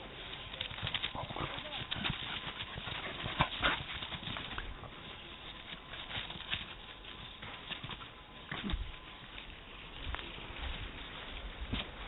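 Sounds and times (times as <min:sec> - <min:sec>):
dogs rustling in dry leaves: 0:00.0 - 0:12.0.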